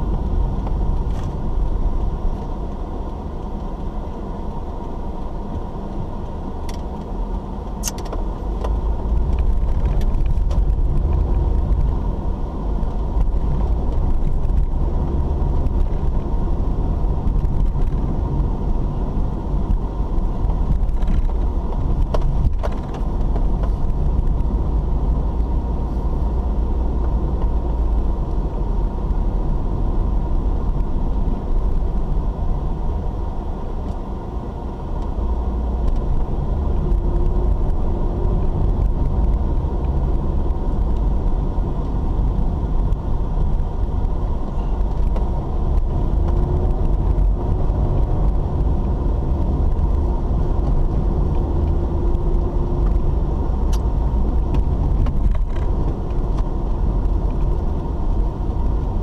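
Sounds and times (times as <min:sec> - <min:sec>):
car driving on paved road: 0:00.0 - 0:59.0.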